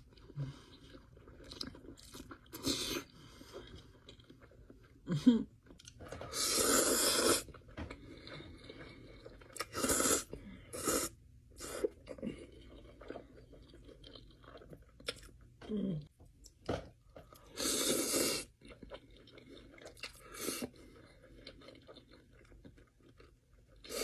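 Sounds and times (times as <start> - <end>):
person chewing: 0.0 - 15.6, 16.4 - 24.0.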